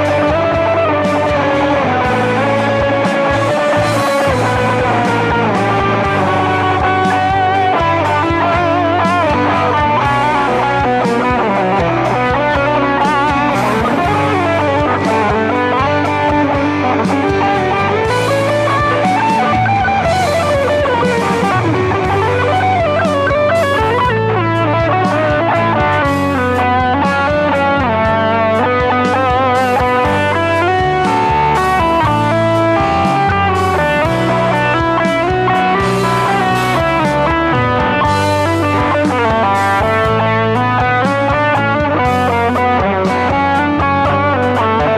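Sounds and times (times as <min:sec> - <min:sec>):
lead electric guitar: 0:00.0 - 0:44.9
steady low bass: 0:00.0 - 0:44.9.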